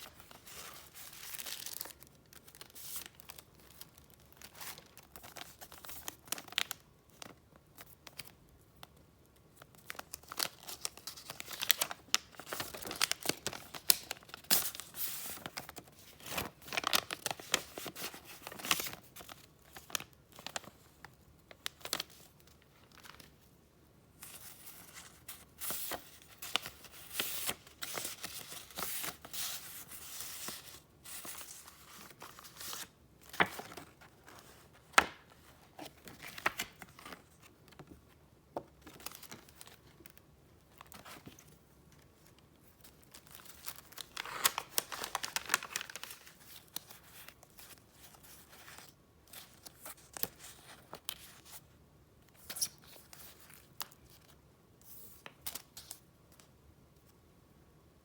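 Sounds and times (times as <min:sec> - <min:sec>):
paper rustling and crinkling: 0:00.0 - 0:08.4, 0:09.6 - 0:20.9, 0:24.2 - 0:51.6.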